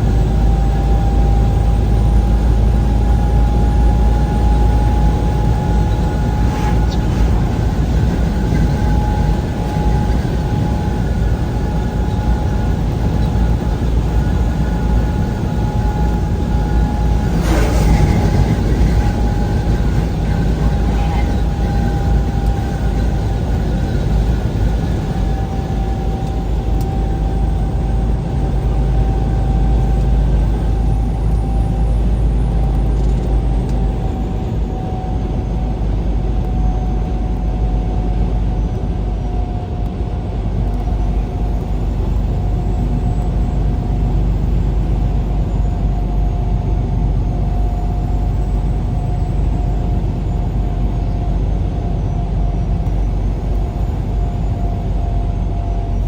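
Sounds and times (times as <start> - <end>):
steady whine: 0.0 - 56.0
vehicle engine and road rumble: 0.0 - 56.0.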